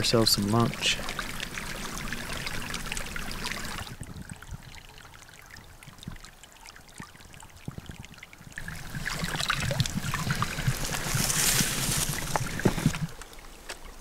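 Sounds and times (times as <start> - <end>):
creek trickling over rocks: 0.0 - 14.0
small water splashes: 0.0 - 14.0.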